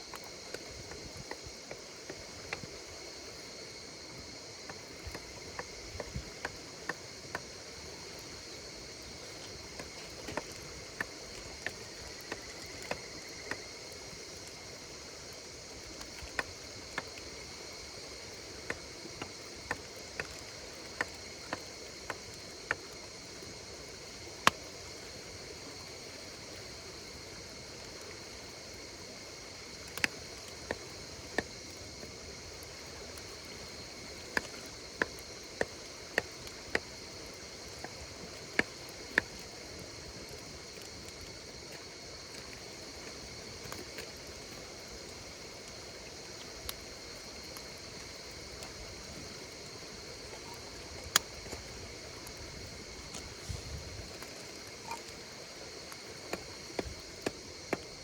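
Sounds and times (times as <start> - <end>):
campfire crackling and popping: 0.0 - 58.0
insects chirring: 0.0 - 58.0.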